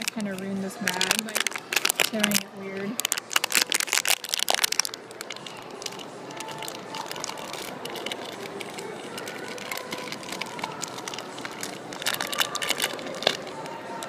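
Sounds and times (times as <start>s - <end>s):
foil packaging crinkling: 0.0s - 14.0s.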